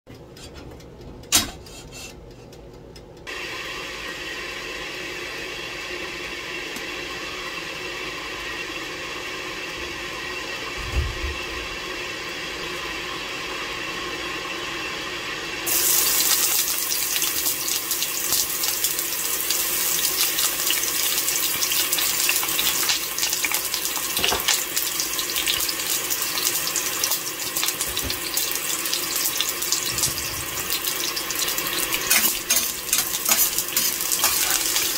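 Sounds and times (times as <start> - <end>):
onion sizzling in hot oil: 3.3 - 10.8, 11.6 - 34.9.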